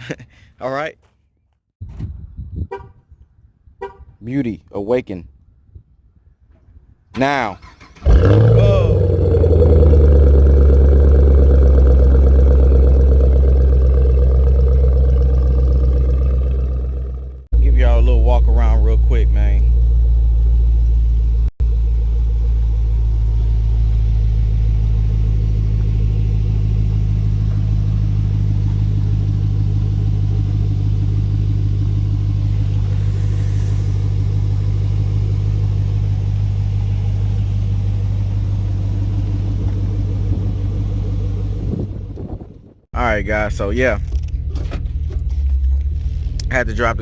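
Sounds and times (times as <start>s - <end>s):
car engine idling: 7.2s - 47.0s.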